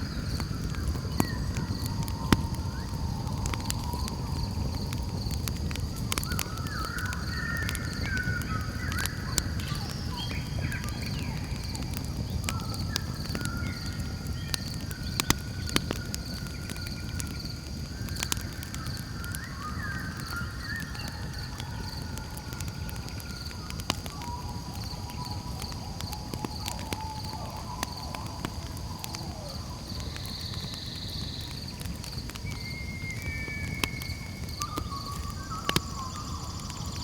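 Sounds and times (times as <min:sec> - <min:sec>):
night creatures calling: 0:00.0 - 0:16.2, 0:16.8 - 0:31.8
campfire crackling and popping: 0:00.0 - 0:37.0
insects trilling: 0:00.0 - 0:37.0.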